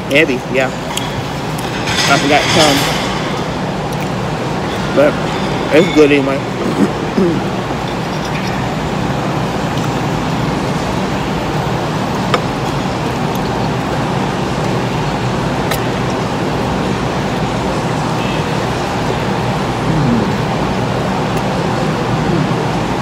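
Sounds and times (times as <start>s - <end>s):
loud background rumble: 0.0s - 23.0s.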